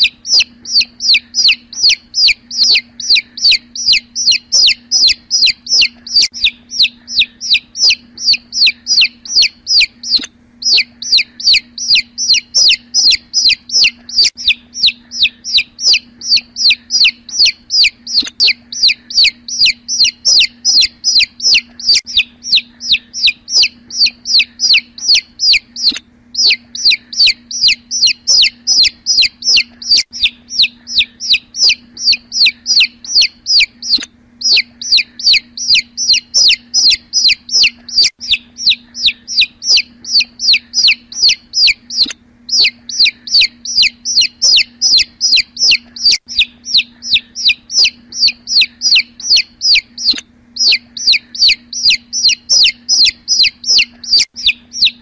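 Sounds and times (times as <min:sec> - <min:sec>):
chick peeping: 0:00.0 - 0:55.0.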